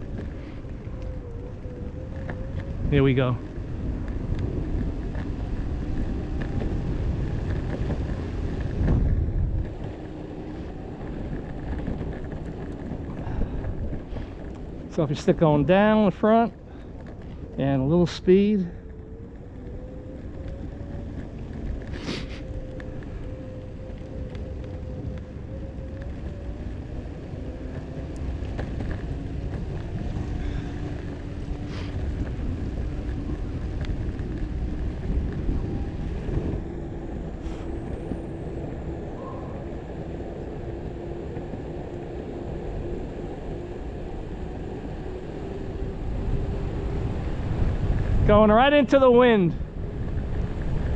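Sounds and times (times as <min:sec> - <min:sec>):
electric motor whine: 0:00.0 - 0:14.9, 0:18.7 - 0:48.3
wheels rumbling on road: 0:00.0 - 0:50.9.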